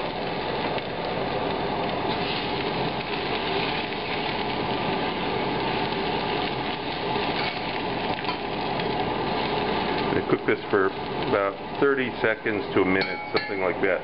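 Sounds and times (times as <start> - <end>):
ginger and garlic sizzling in oil: 0.0 - 14.0.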